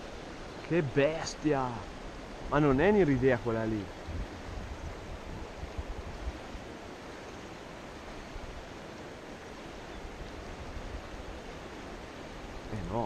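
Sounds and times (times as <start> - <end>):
river rushing over stones: 0.0 - 13.0
wind buffeting microphone: 1.5 - 13.0.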